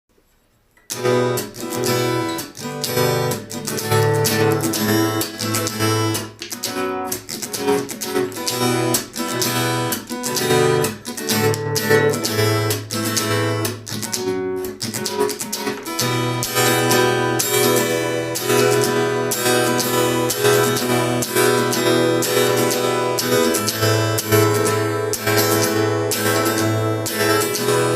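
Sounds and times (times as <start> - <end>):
acoustic guitar strumming: 0.8 - 27.9
slaps on guitar body: 0.8 - 27.9.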